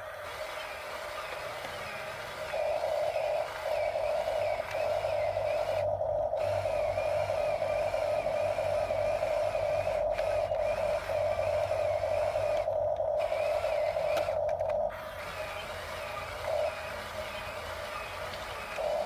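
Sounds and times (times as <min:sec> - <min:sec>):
toy electric motors whining: 0:00.0 - 0:19.0.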